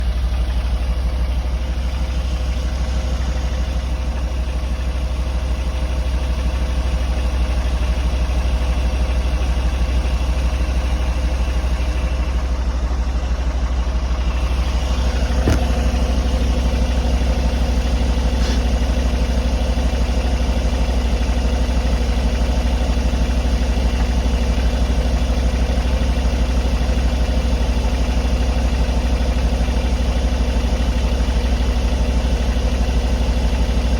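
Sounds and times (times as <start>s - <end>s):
car engine idling: 0.0s - 33.9s
rapid engine knocking: 0.0s - 33.9s.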